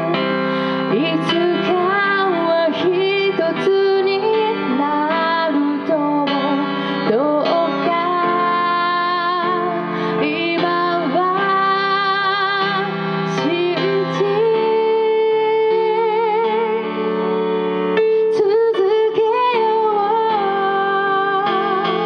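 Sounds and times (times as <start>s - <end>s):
woman singing slow song: 0.0s - 17.1s, 18.1s - 22.0s
electronic keyboard: 0.0s - 22.0s.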